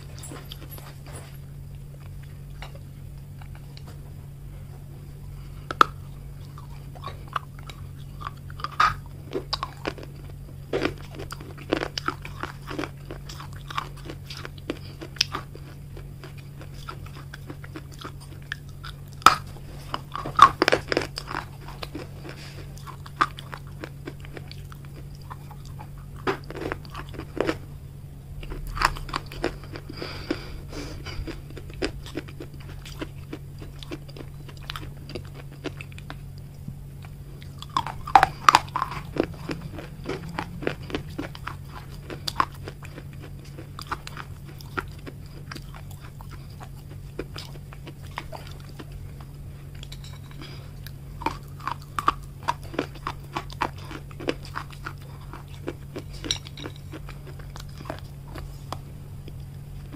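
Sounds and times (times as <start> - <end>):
teeth crunching hard clay: 5.6 - 27.7, 28.4 - 36.3, 37.0 - 59.9.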